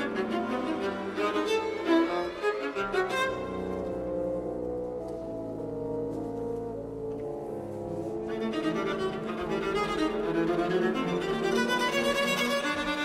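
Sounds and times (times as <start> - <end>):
viola and orchestra playing: 0.0 - 13.0.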